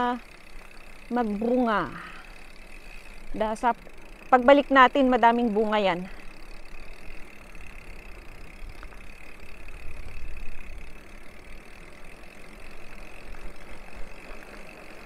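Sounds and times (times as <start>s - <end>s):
bicycle tyres rolling on road: 0.0s - 15.0s.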